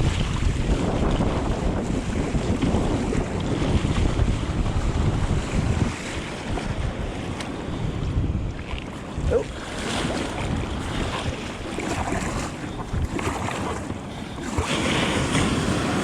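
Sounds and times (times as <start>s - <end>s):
small waves and surf: 0.0s - 16.0s
wind buffeting microphone: 0.0s - 16.0s.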